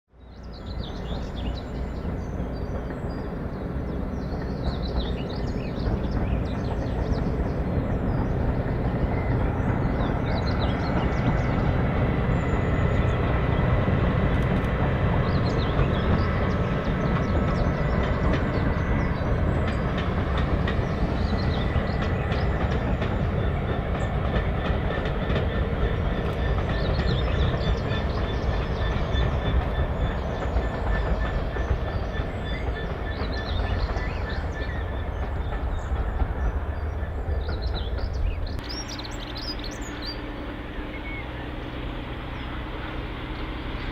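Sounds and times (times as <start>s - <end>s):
diesel train rumble: 0.1s - 43.9s
train wheel clatter: 0.4s - 43.9s.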